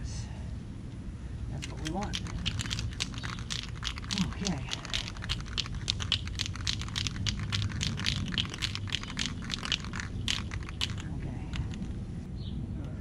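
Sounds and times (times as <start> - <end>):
low wind rumble: 0.0 - 13.0
spray can rattle being shaken: 1.6 - 12.0.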